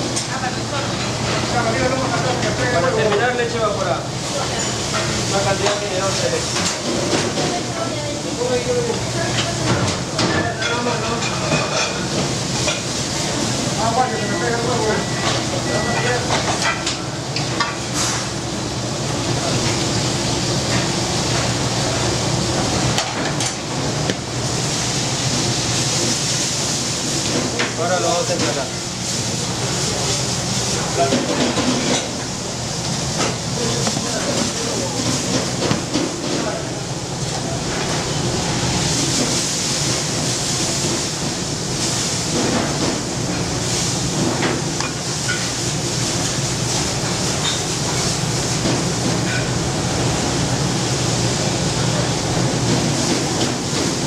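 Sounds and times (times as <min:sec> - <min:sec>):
commercial kitchen background noise: 0:00.0 - 0:54.0
gas ranges and extraction hood: 0:00.0 - 0:54.0.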